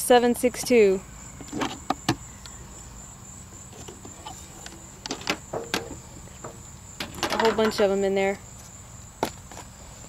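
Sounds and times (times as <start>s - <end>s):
insect trilling: 0.3s - 9.0s.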